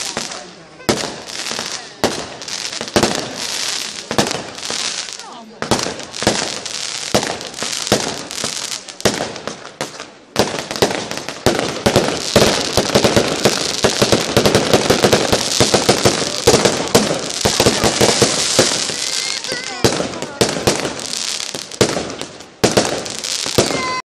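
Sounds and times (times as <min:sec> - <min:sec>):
firework bangs: 0:00.0 - 0:24.0
fireworks crackling: 0:00.0 - 0:24.0.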